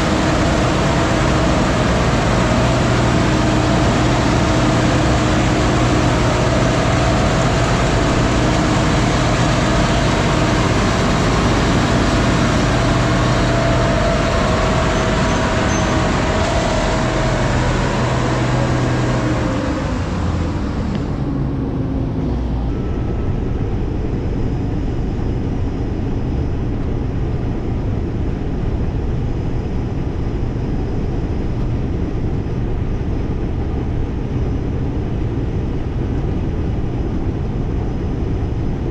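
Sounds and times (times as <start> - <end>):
heavy machinery engine drone: 0.0 - 38.9.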